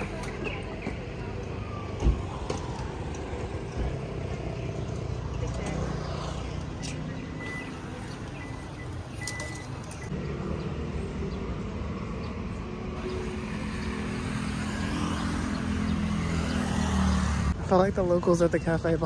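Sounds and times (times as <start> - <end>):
road traffic rumble: 0.0 - 19.0
vehicle engine hum: 0.0 - 19.0.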